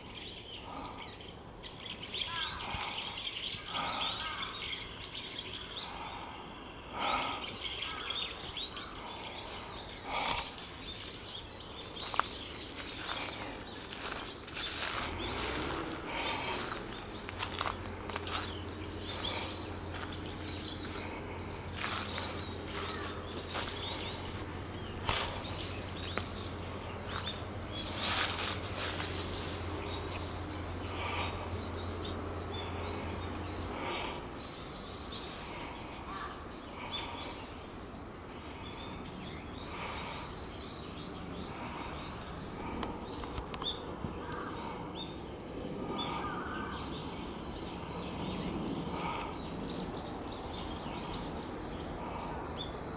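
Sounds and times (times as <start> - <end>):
low steady hum: 0.0 - 52.9
small birds chirping: 0.0 - 52.9.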